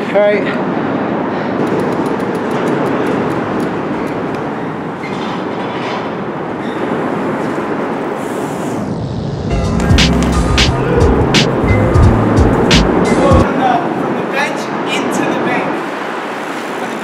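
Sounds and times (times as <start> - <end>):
train rumbling on elevated bridge: 0.0 - 17.0.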